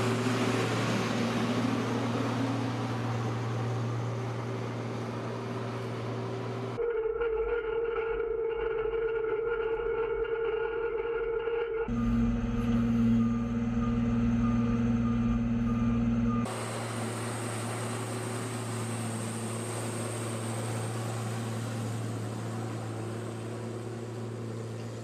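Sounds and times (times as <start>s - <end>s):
off-road vehicle engine droning: 0.0s - 7.6s, 11.6s - 25.0s.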